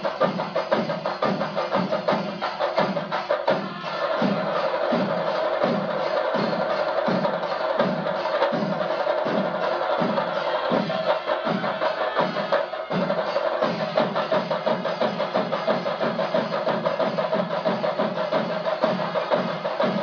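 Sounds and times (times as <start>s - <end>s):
fast percussion: 0.0s - 20.0s.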